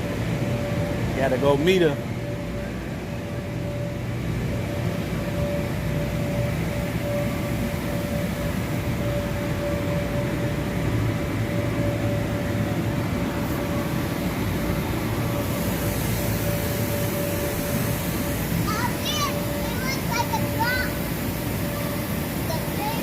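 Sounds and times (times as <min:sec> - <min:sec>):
electric inflatable blowers droning: 0:00.0 - 0:23.0.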